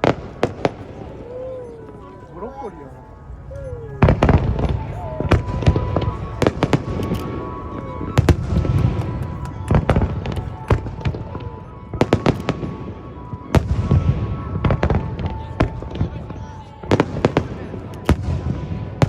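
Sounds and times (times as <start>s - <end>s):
fireworks bangs and crackles: 0.0s - 2.5s, 3.6s - 19.0s
music playing: 0.0s - 19.0s.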